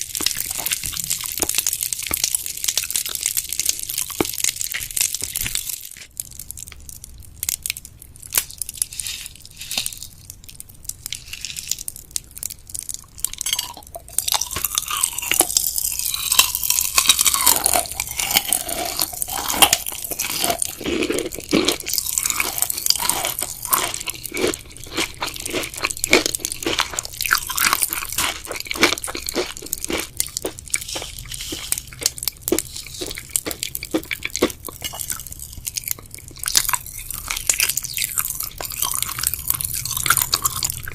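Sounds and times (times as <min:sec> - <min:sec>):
person chewing gummy sweets: 0:00.0 - 0:40.9.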